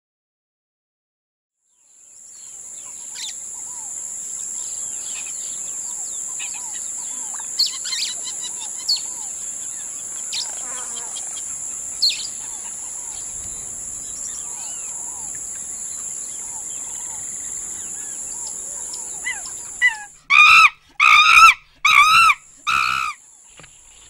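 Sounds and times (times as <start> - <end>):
high insect drone: 1.8 - 24.0
birds calling: 2.4 - 24.0.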